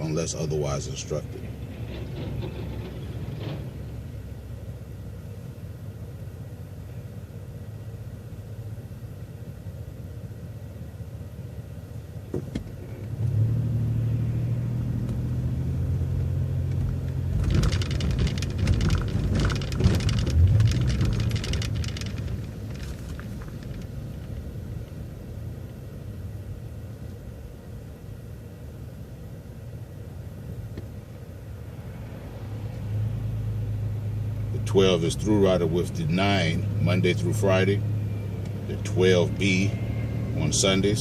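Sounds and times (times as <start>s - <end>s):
bus engine humming: 0.0s - 41.0s
road noise: 0.0s - 41.0s.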